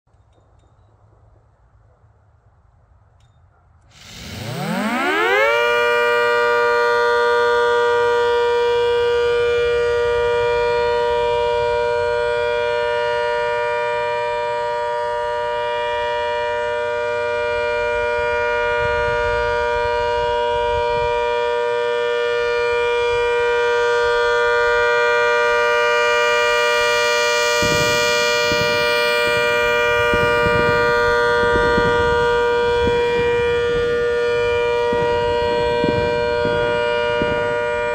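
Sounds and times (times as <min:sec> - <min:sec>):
rotating siren wailing: 0:04.0 - 0:37.9.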